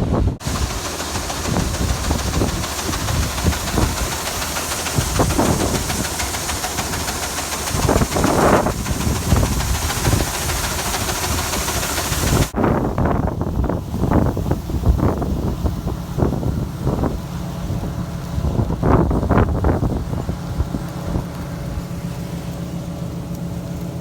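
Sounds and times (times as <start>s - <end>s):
grain flowing with hissing rush: 0.4s - 12.6s, 16.0s - 24.0s
grain auger running: 0.4s - 24.0s.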